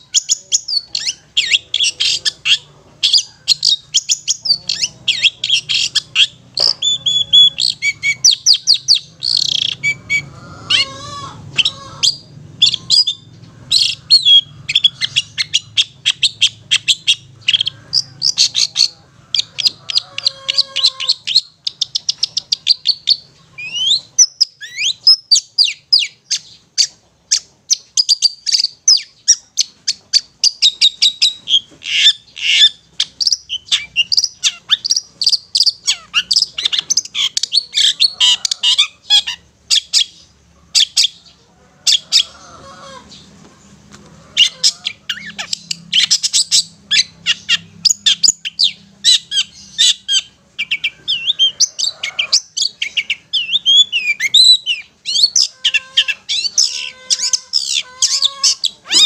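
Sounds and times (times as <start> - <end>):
bird chattering high notes: 0.0 - 40.2, 44.4 - 59.0.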